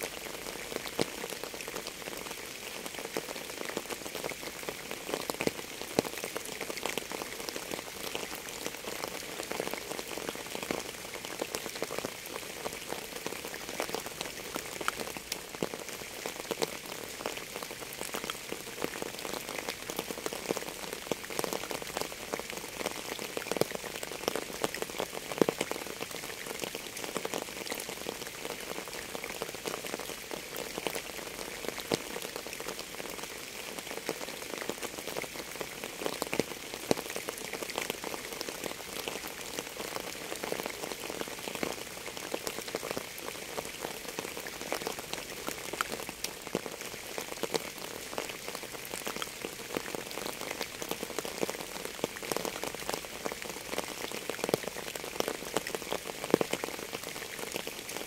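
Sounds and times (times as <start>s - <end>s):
rain falling: 0.0s - 58.0s
raindrops ticking on a surface: 0.0s - 58.0s.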